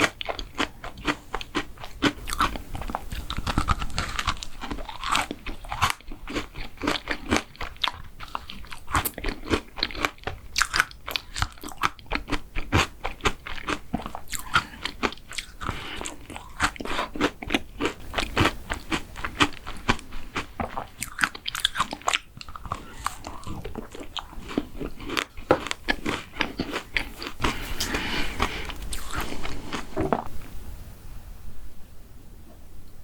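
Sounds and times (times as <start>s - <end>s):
crisp crunching of dessert: 0.0s - 30.3s
wet chewing: 0.0s - 30.4s.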